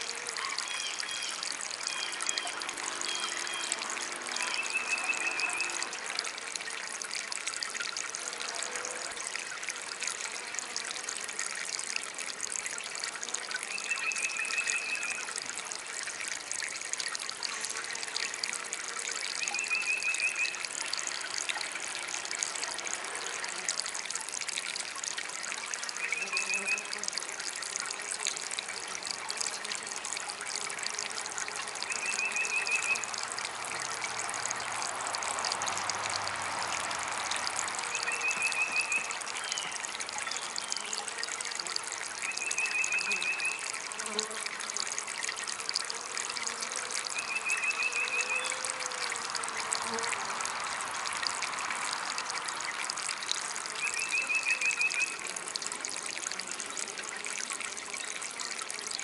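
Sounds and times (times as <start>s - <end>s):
fountain water trickling: 0.0s - 59.0s.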